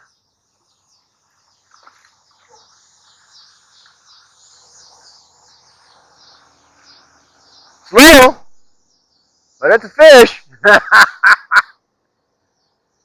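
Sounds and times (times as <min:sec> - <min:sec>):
bird calls: 0:00.0 - 0:10.1, 0:10.7 - 0:13.0
insects chirping: 0:00.0 - 0:13.0.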